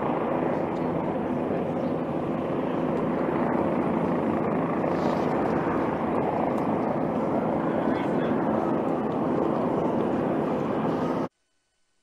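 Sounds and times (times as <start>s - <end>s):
helicopter rotor and engine drone: 0.0s - 11.3s.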